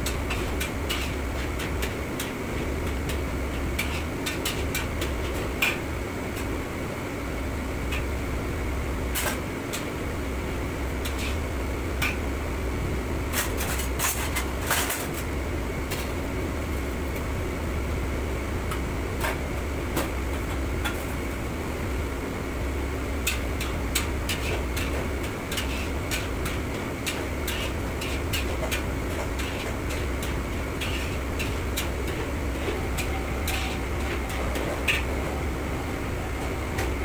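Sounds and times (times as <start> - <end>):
low hum of kitchen burners: 0.0 - 37.0.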